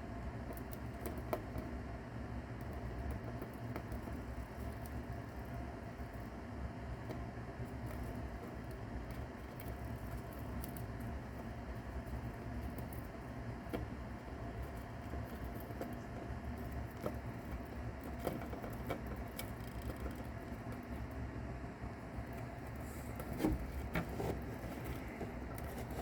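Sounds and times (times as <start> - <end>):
mouse chewing and crunching: 0.0 - 26.0
steady low hum: 0.0 - 26.0.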